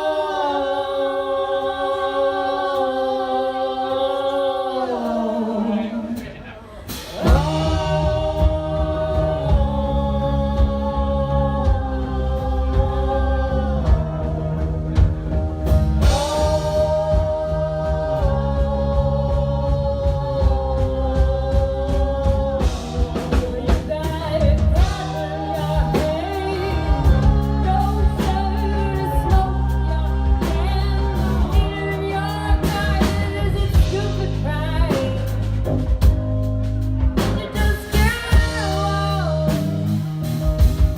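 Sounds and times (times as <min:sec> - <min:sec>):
band with steady beat: 0:06.0 - 0:40.9.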